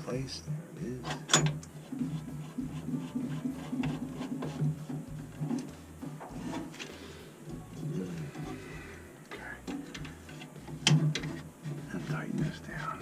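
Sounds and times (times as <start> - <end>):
low pitched background sound: 0.0 - 13.0.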